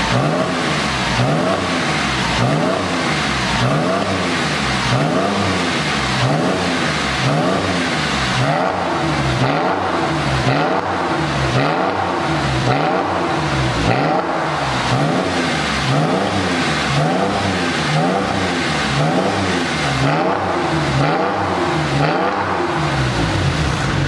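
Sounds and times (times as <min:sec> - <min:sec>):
car engine revving in blips: 0:00.0 - 0:24.0.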